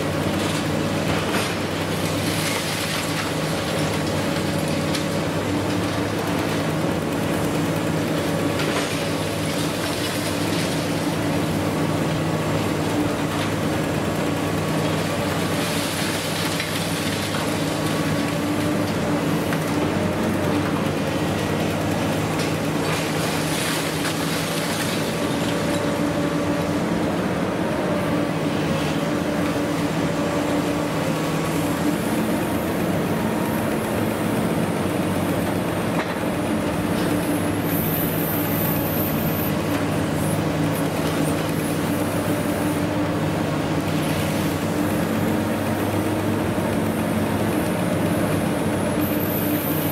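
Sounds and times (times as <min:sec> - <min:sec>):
excavator engine drone: 0:00.0 - 0:49.9.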